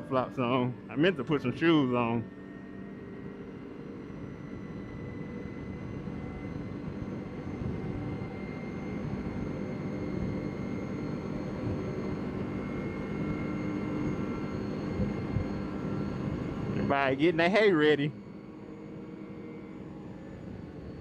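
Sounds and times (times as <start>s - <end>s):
thin steady whine: 0.0s - 21.0s.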